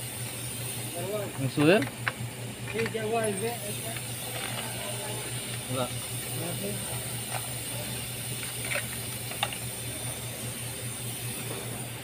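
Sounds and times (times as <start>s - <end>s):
low mechanical hum with hiss: 0.0s - 12.0s.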